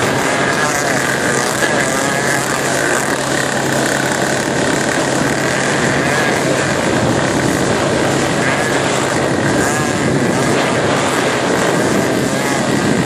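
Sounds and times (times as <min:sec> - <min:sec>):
high wavering whine: 0:00.0 - 0:13.0
motorboat engine running: 0:00.0 - 0:13.0
wind and water rushing: 0:00.0 - 0:13.0.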